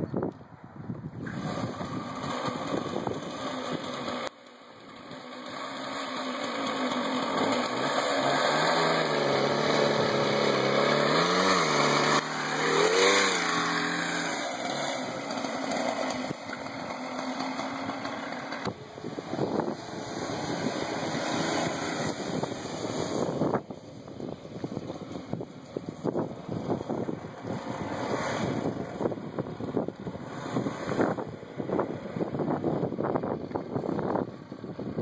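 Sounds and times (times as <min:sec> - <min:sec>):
two-stroke engine passing: 0:01.2 - 0:35.0.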